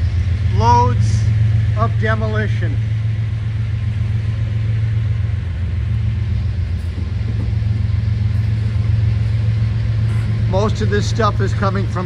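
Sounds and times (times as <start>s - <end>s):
freight train wheels rumbling on rails: 0.0s - 12.0s.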